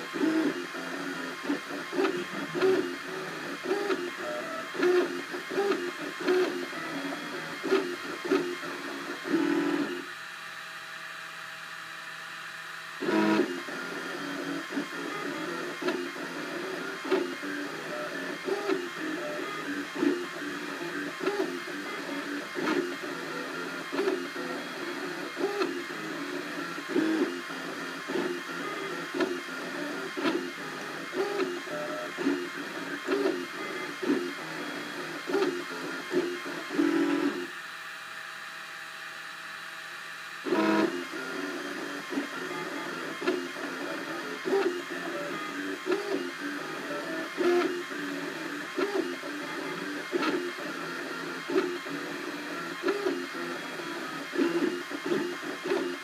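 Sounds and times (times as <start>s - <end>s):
printer stepper motors whining: 0.0s - 56.0s.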